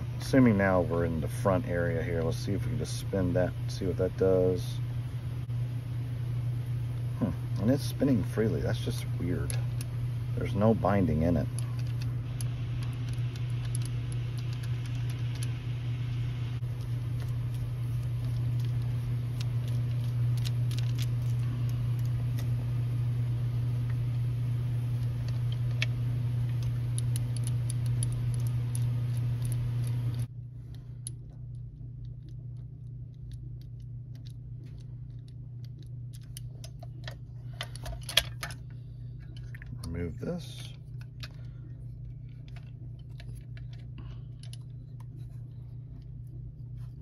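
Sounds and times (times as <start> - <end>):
low hum and hiss: 0.0 - 47.0.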